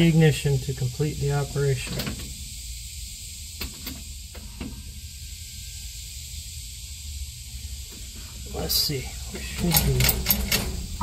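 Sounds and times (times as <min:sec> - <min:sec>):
electric fuel pump hissing: 0:00.0 - 0:11.0.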